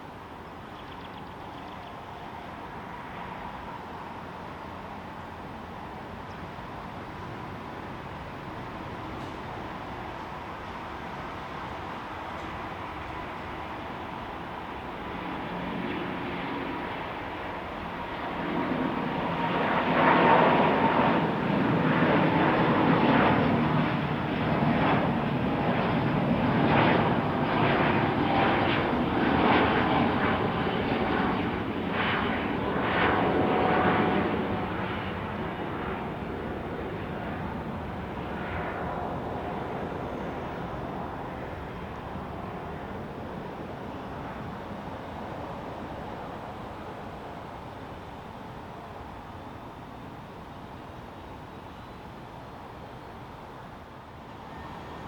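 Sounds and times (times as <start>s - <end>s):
jet engine whine: 0.0s - 55.0s
jet engines roaring: 0.0s - 55.0s.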